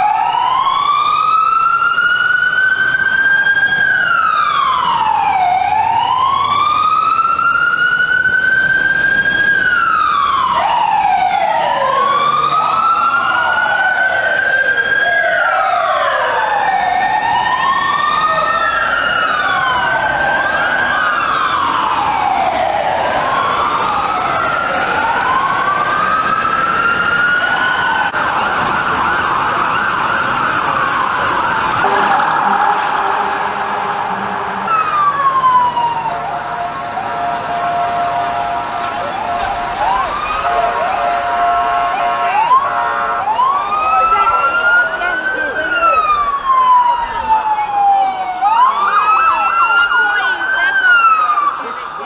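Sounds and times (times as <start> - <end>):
sirens fast warbling yelp: 0.0 - 52.0
sirens wailing: 0.0 - 52.0.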